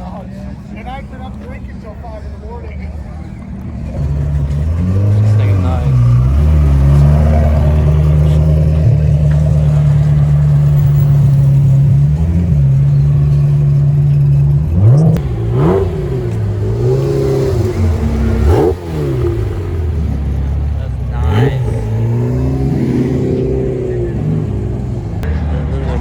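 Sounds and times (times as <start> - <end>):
car engine revving: 3.3 - 26.0.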